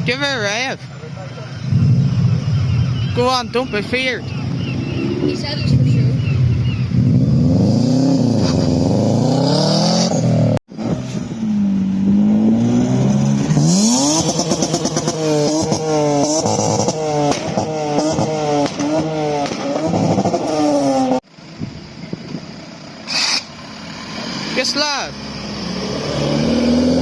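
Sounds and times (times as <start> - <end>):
car engine revving: 1.2 - 21.3, 22.8 - 27.0.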